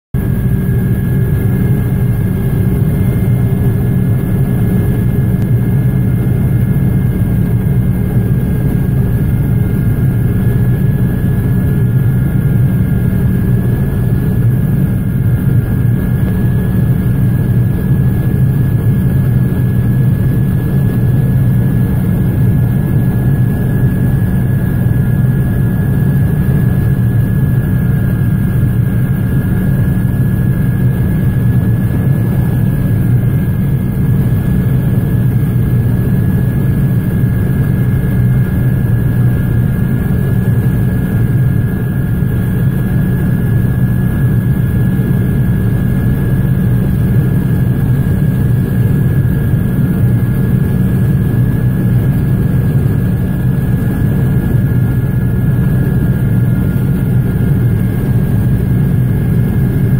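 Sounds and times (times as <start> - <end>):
helicopter rotor and engine drone: 0.2 - 59.9.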